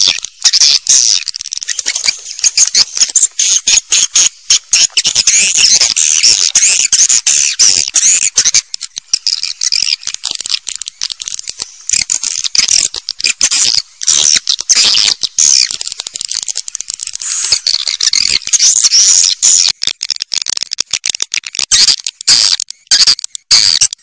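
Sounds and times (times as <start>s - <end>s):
swiftlets chirping: 0.0s - 24.0s.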